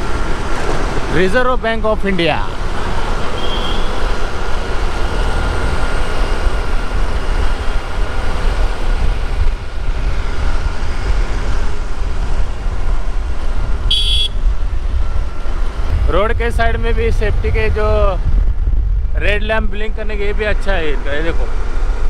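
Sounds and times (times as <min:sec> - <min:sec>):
road noise: 0:00.0 - 0:22.0
wind rumble on microphone: 0:04.0 - 0:22.0.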